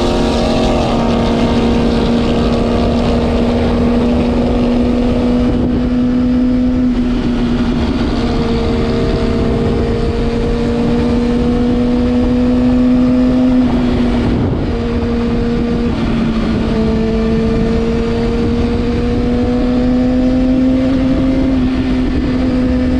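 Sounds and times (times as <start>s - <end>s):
vehicle engine at high revs: 0.0s - 22.9s
wind rush: 0.0s - 22.9s.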